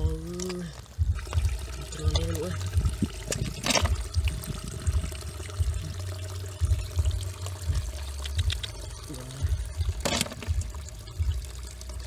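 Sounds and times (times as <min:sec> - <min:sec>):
irregular low thuds: 0:00.0 - 0:08.7, 0:09.4 - 0:11.6
water pouring and trickling: 0:00.0 - 0:12.0.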